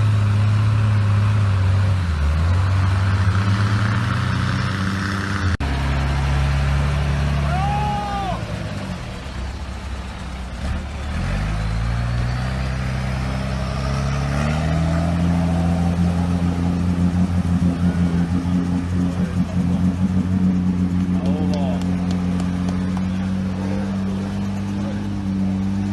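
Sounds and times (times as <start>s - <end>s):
vehicle engine revving: 0.0s - 25.9s.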